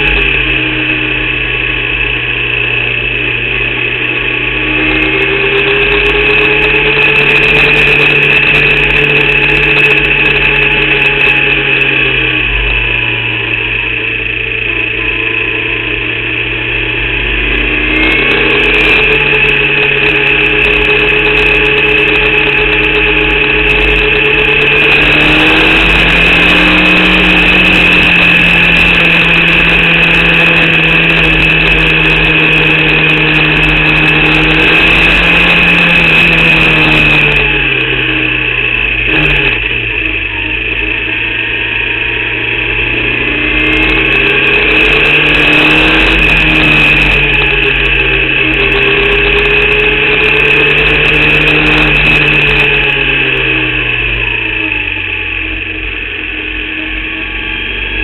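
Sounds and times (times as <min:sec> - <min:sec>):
racing car engine: 0:00.0 - 0:58.0
steady high whine: 0:00.0 - 0:58.0.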